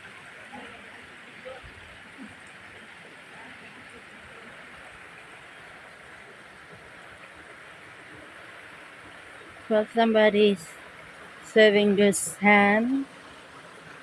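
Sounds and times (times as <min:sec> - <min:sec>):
rushing water hiss: 0:00.0 - 0:14.0.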